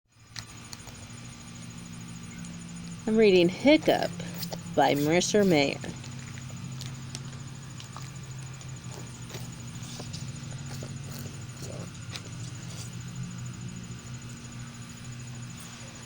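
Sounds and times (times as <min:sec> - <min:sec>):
steady low hum: 0:00.1 - 0:16.0.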